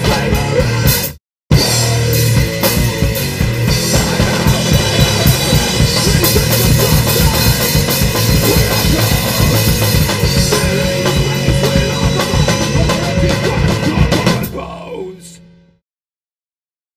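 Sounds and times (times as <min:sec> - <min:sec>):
fast drumming on drum kit: 0:00.0 - 0:15.0
rock band playing: 0:00.0 - 0:15.6
bass guitar: 0:00.0 - 0:15.8.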